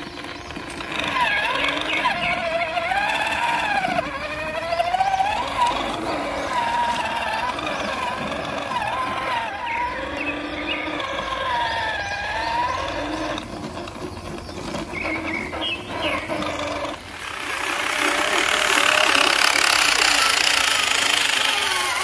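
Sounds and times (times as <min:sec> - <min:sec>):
gritty running noise: 0:00.0 - 0:22.0
small electric motor whine: 0:00.0 - 0:22.0.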